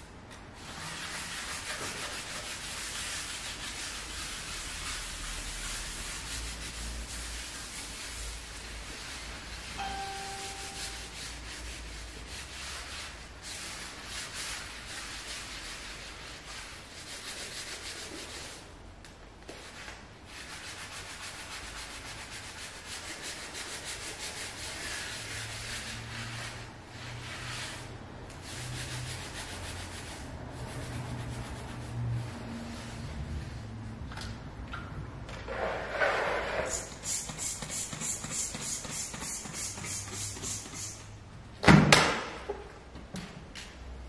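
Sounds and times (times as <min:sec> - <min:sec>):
sponge scrubbing wooden floor: 0:00.6 - 0:18.7, 0:19.6 - 0:33.7, 0:35.6 - 0:41.0.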